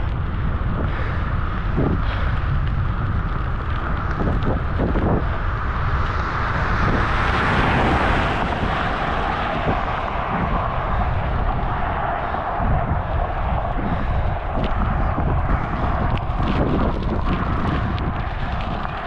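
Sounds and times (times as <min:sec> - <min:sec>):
road and tyre noise: 0:00.0 - 0:19.0
wind rumbling on microphone: 0:00.0 - 0:19.0.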